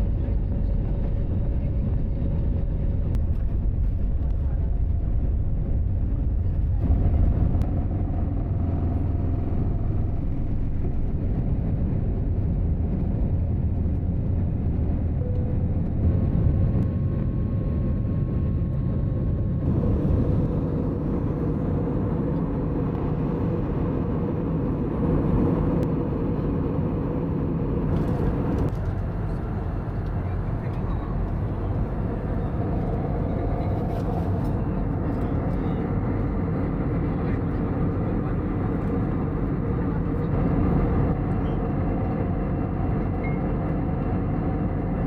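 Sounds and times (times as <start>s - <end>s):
airliner cabin rumble: 0.0s - 45.0s.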